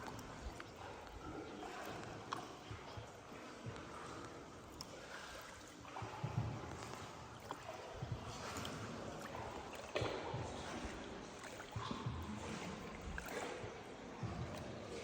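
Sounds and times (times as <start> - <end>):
water splashing around boat: 0.0 - 15.0.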